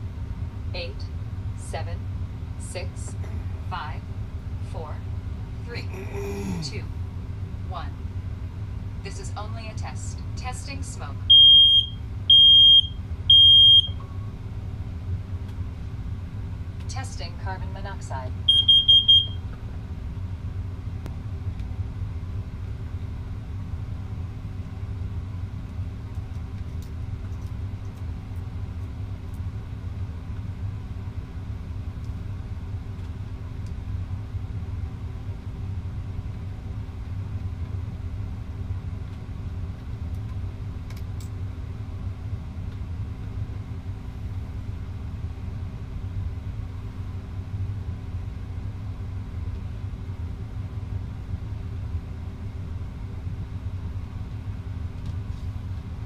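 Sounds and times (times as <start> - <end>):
constant hum: 0.0 - 56.0.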